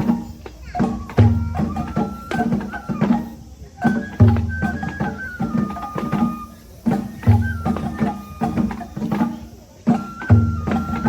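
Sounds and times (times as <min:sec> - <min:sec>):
high bamboo flute melody: 0:00.0 - 0:11.0
quick light drumming: 0:00.0 - 0:11.0.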